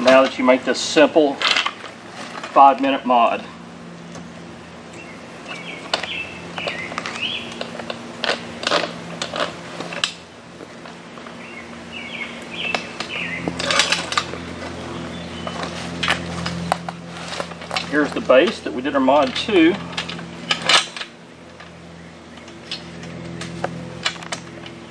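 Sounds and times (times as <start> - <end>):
birds chirping: 2.6 - 24.9.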